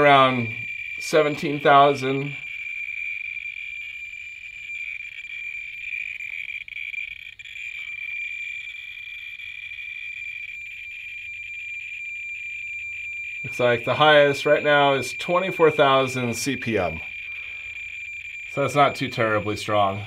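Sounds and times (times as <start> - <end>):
geiger counter clicking rapidly: 0.0 - 20.0.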